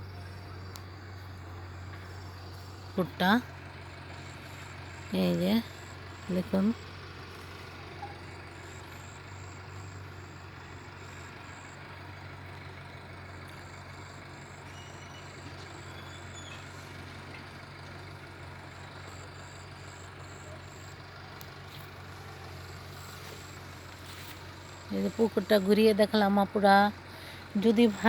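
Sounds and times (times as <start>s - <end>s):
low engine drone: 0.0s - 28.0s.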